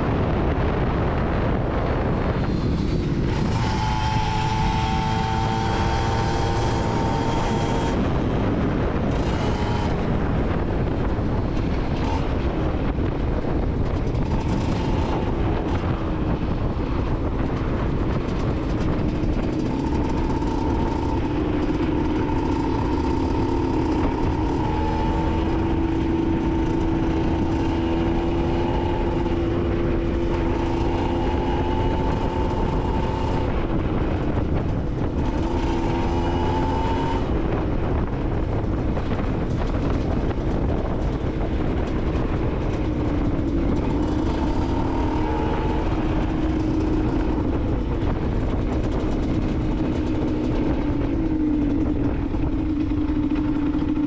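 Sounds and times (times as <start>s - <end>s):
steady rushing noise: 0.0s - 54.0s
two-stroke motorcycle engine running: 0.0s - 54.0s.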